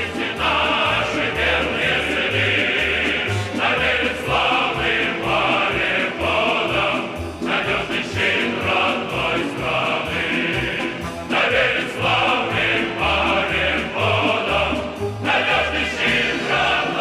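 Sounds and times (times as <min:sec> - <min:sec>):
choir singing with instruments: 0:00.0 - 0:17.0.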